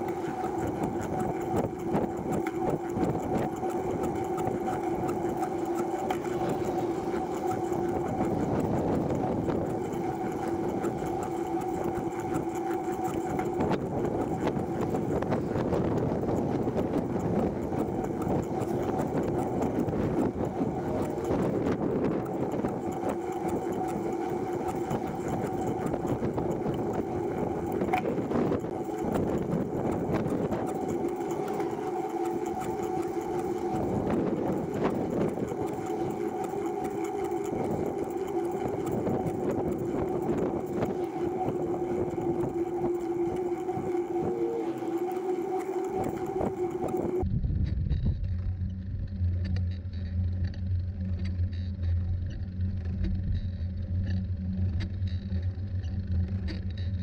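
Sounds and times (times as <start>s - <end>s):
bicycle chain and tyres whirring: 0.0s - 57.0s.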